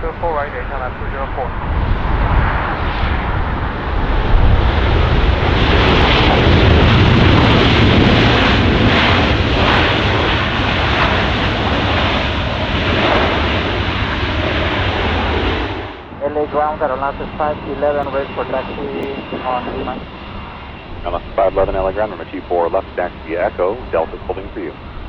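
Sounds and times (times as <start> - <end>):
jet airliner engine roar: 0.0 - 25.0.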